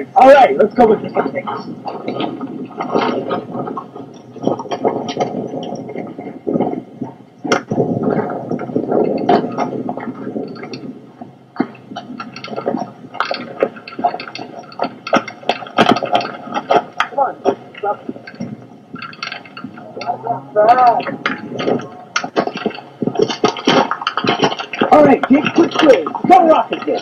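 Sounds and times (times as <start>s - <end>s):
continuous rushing noise: 0.0s - 27.0s.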